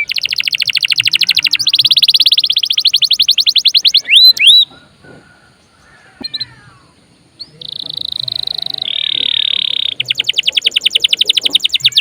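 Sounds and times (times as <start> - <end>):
canary singing trill: 0.0 - 4.9, 6.1 - 12.0.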